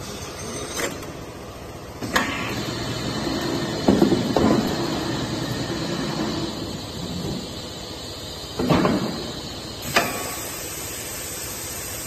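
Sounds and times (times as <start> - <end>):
steady mechanical rumble: 1.0 - 12.0.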